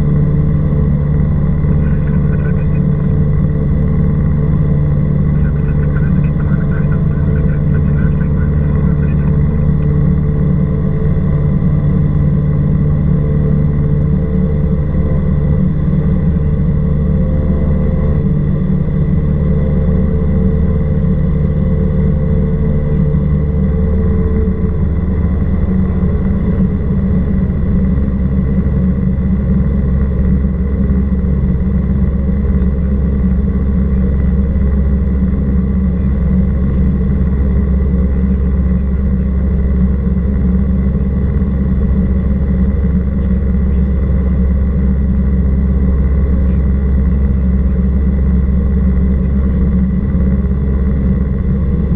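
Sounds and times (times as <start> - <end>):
airplane engine droning: 0.0 - 51.9.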